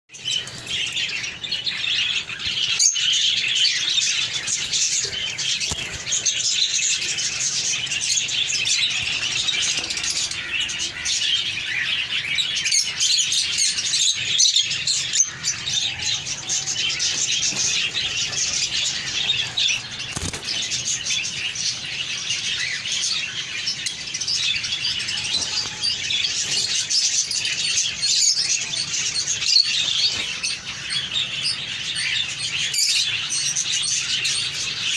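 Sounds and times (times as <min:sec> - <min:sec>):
parrots chattering and chirping: 0:00.2 - 0:34.9.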